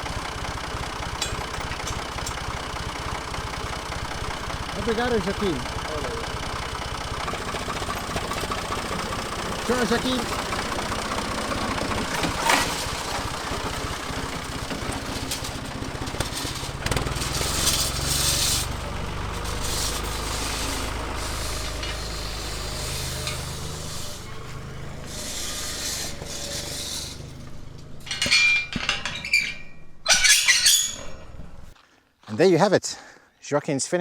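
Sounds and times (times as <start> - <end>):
tractor engine running: 0.0 - 31.8.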